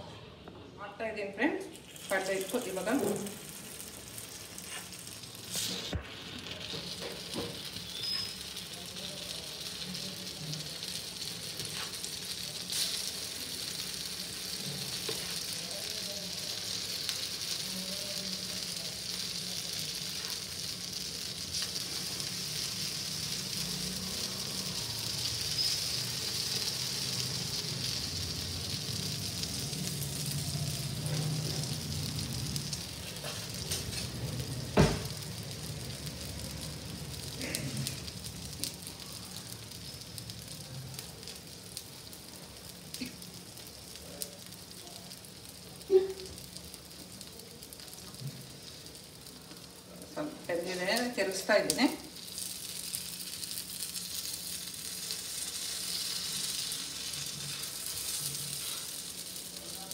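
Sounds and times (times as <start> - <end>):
batter sizzling in hot oil: 1.2 - 59.9.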